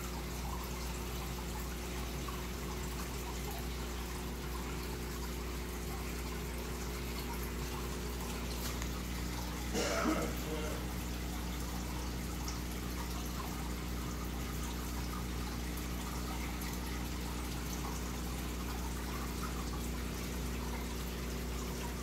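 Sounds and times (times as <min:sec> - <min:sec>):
aquarium water bubbling: 0:00.0 - 0:22.0
low pump hum: 0:00.0 - 0:22.0.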